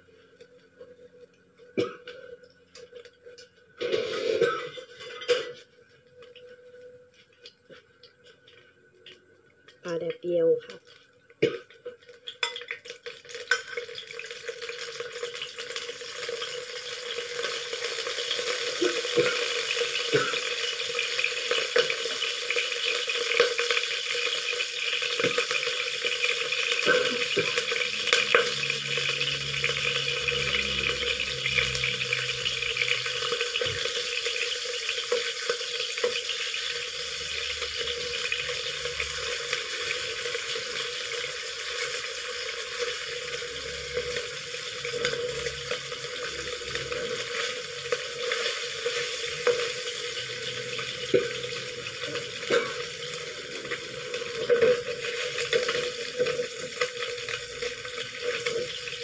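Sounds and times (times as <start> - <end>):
fish sizzling in hot oil: 9.8 - 59.0.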